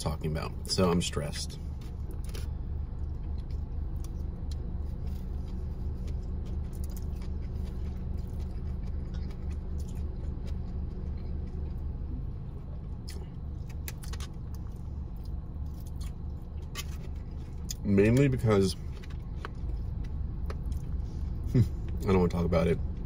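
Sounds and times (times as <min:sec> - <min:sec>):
car engine idling: 0:00.0 - 0:23.0
person chewing: 0:01.7 - 0:17.8, 0:18.8 - 0:22.0.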